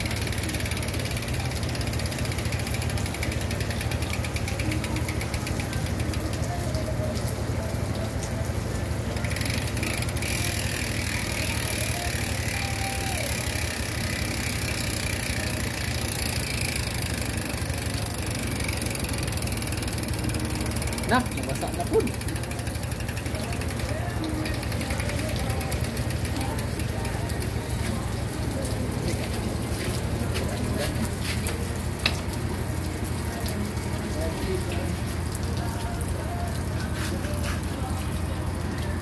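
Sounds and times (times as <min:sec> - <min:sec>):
bicycle freehub ticking: 0:00.0 - 0:08.0, 0:08.9 - 0:36.7.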